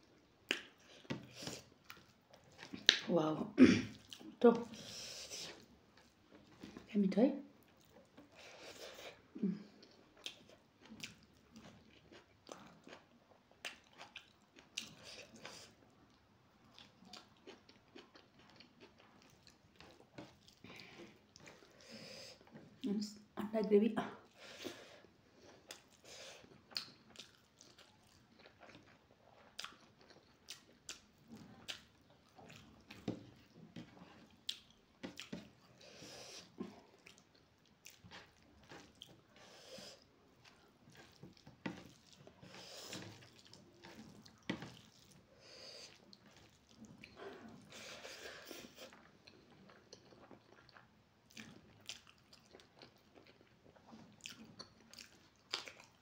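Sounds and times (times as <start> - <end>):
wet chewing: 0.5 - 3.1, 3.9 - 6.9, 7.6 - 22.9, 24.2 - 56.0.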